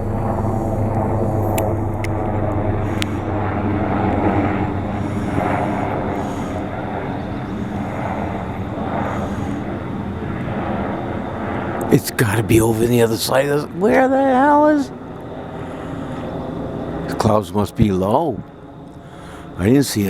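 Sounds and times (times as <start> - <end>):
aircraft engine drone overhead: 0.0 - 20.0.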